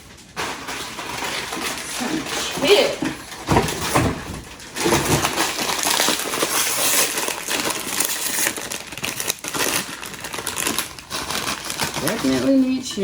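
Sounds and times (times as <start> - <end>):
chips clattering onto a plate: 0.3 - 12.6.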